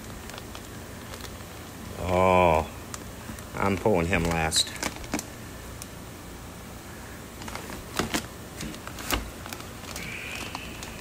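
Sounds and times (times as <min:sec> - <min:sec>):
plastic bags crinkling: 0:00.0 - 0:05.4, 0:07.3 - 0:11.0
low steady hum: 0:00.0 - 0:11.0.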